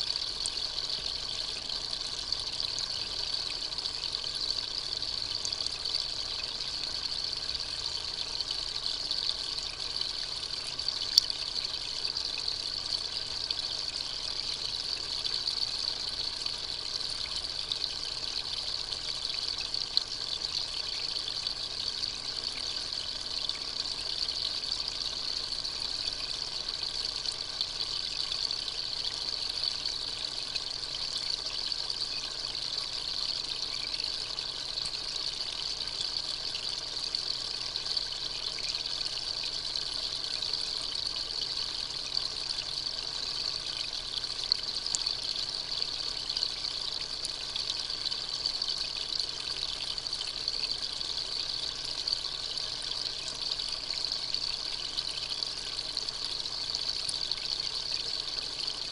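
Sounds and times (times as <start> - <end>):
trickle of running water: 0.0 - 58.9.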